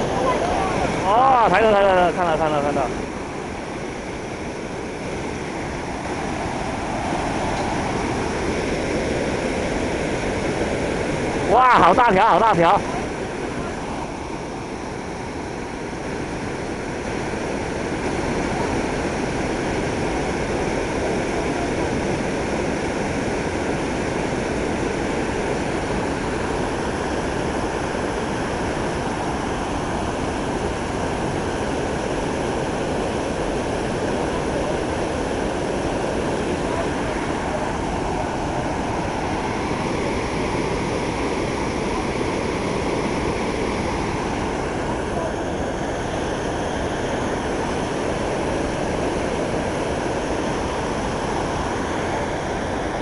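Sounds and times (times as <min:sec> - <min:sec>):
white water churning: 0:00.0 - 0:53.0.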